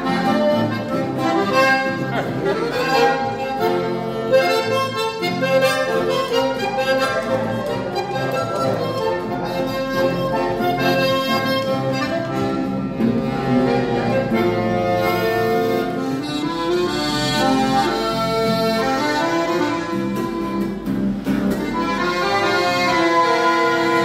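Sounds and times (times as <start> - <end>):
accordion music: 0.0 - 24.0.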